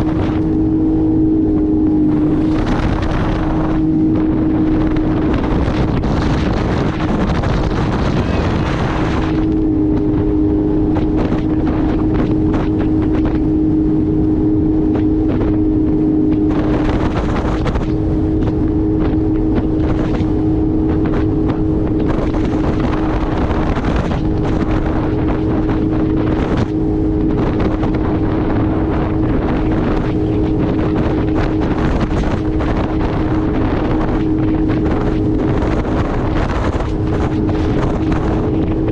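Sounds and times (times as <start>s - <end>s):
jet ski engine running: 0.0s - 38.9s
wind buffeting microphone: 0.0s - 38.9s.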